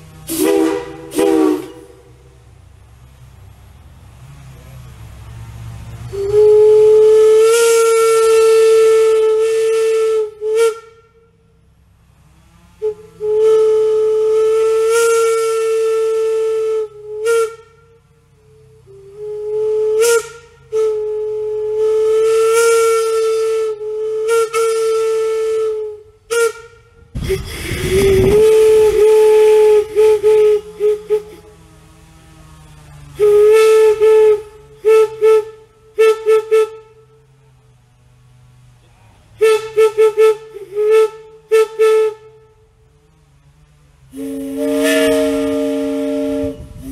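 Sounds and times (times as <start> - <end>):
steam whistle blasts: 0.0 - 2.4, 6.0 - 11.5, 12.3 - 38.7, 39.3 - 42.8, 44.1 - 46.9.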